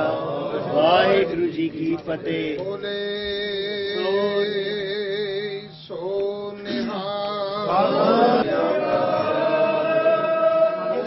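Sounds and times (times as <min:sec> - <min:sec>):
congregation chanting: 0:00.0 - 0:11.0.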